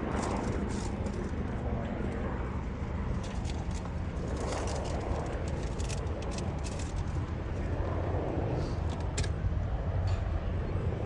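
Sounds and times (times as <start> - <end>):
distant helicopter rotor rumble: 0.0 - 11.0.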